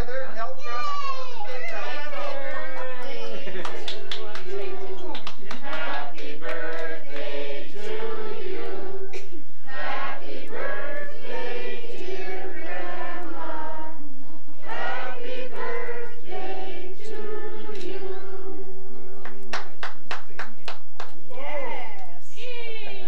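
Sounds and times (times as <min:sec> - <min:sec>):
group singing a birthday song: 0:01.4 - 0:19.4, 0:22.2 - 0:23.0.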